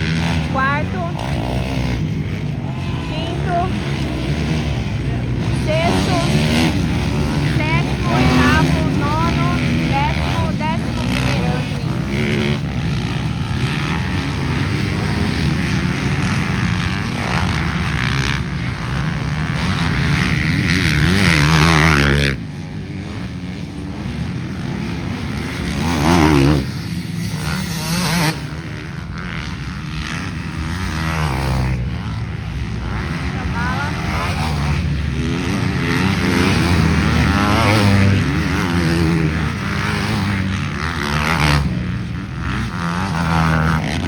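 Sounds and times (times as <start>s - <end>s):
motocross motorcycles revving: 0.0s - 44.0s.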